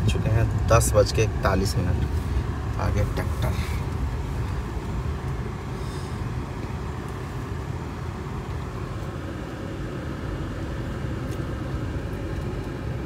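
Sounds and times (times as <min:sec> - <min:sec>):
car driving on rough road: 0:00.0 - 0:13.0
tractor running: 0:00.0 - 0:13.0.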